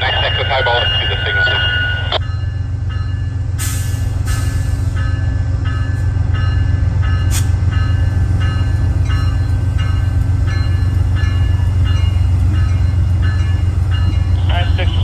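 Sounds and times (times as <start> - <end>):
locomotive bell ringing: 0.0 - 3.7, 4.9 - 15.0
diesel locomotive droning: 0.0 - 15.0.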